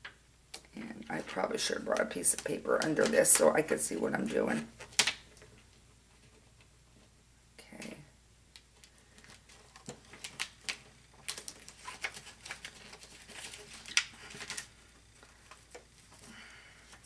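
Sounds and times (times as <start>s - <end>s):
plastic sheet crinkling and clicking: 0.0s - 6.7s, 7.7s - 17.0s.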